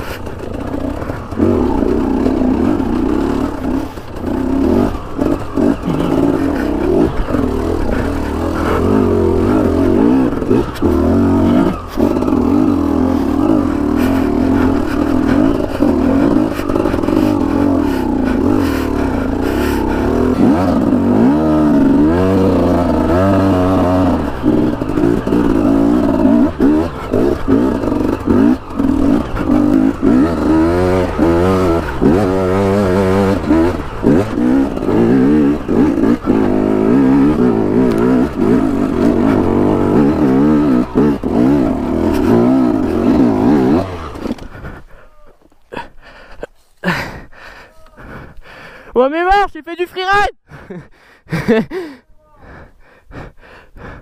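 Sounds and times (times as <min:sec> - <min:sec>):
motorcycle knocks and rattles: 0:00.0 - 0:44.6
motorcycle engine revving: 0:00.0 - 0:47.3.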